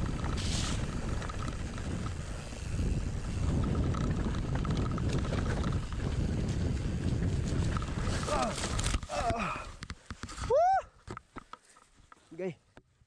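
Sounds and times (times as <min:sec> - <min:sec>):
wind buffeting microphone: 0:00.0 - 0:10.8
mountain bike rolling on dirt: 0:00.0 - 0:12.5.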